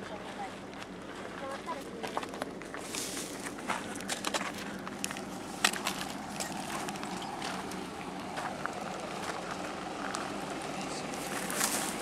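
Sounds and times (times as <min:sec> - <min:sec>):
footsteps on stony ground: 0:00.0 - 0:12.0
steady background noise: 0:00.0 - 0:12.0.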